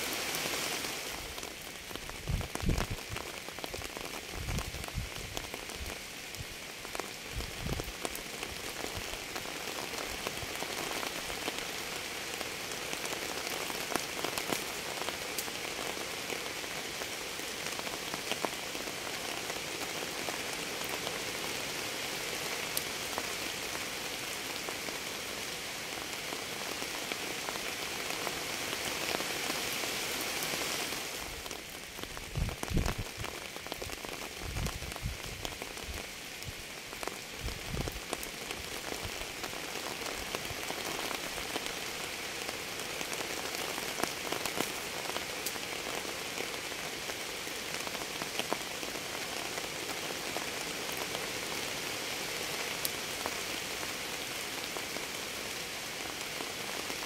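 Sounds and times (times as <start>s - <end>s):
steady rain with drops ticking: 0.0s - 57.0s.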